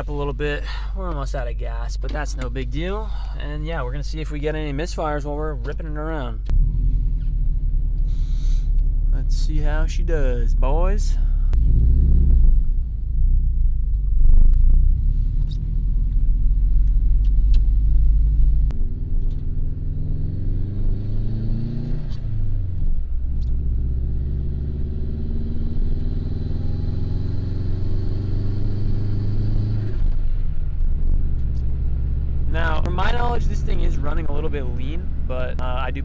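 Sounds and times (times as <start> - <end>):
car engine revving under load: 0.0 - 36.0.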